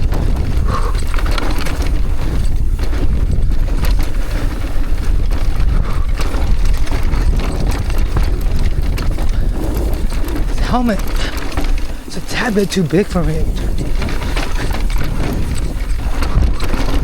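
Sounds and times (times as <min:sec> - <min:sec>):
bike rattling and knocking: 0:00.0 - 0:17.0
tyres crunching on dirt: 0:00.0 - 0:17.0
wind buffeting microphone: 0:00.0 - 0:17.0.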